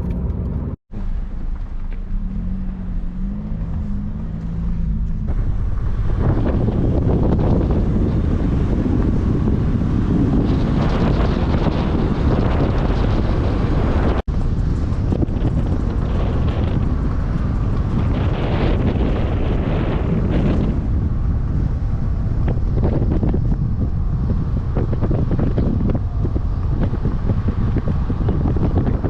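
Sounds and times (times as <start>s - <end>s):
road rumble: 0.0s - 29.0s
wind buffeting microphone: 0.0s - 29.0s.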